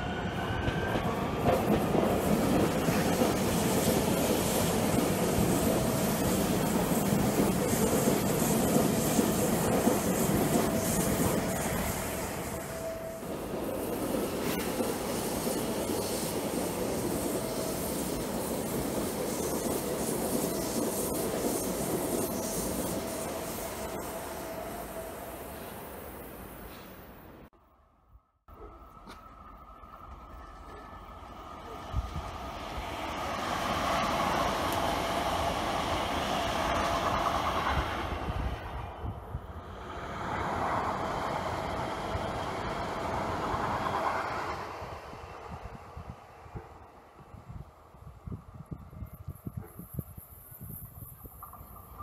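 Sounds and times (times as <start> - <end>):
train rolling on rails: 0.0 - 27.5, 28.5 - 52.0.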